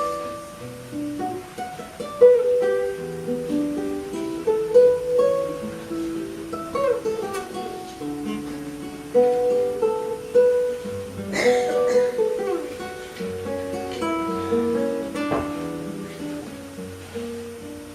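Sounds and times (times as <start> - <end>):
fingerpicked classical guitar: 0.0 - 17.9.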